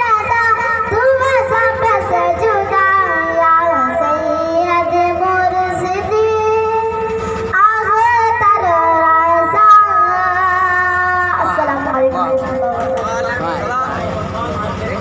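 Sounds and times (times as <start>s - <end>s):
boy singing into a microphone: 0.0s - 14.0s.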